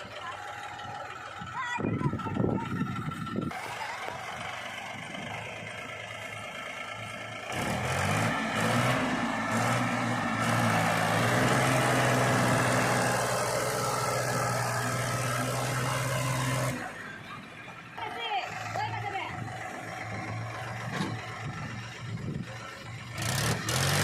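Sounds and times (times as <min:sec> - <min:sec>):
diesel engine revving: 0:00.0 - 0:24.0.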